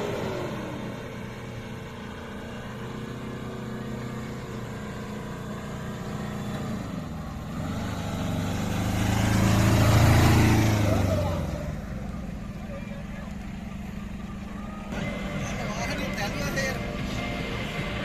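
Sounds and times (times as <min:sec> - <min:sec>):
small truck driving past: 0:00.0 - 0:18.0
vehicle engines idling: 0:00.0 - 0:18.0.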